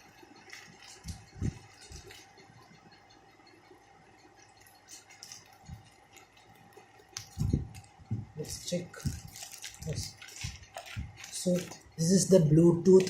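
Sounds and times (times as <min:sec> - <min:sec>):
wrapping rustling and crinkling: 0:00.0 - 0:02.6, 0:04.4 - 0:13.0
faint steady hum: 0:00.0 - 0:13.0.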